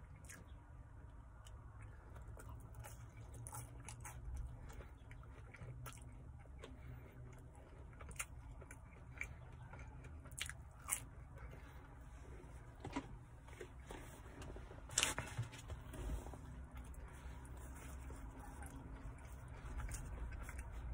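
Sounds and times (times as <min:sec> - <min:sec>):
person chewing food: 0:00.0 - 0:20.9.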